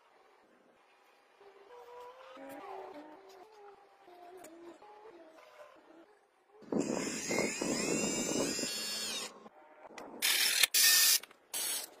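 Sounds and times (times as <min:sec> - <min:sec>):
small motor and gearbox whining: 0:00.0 - 0:12.0.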